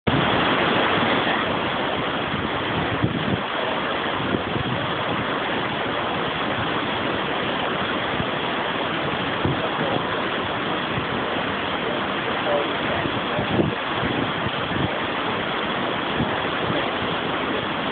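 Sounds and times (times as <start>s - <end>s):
water rushing over a weir: 0.0s - 17.9s.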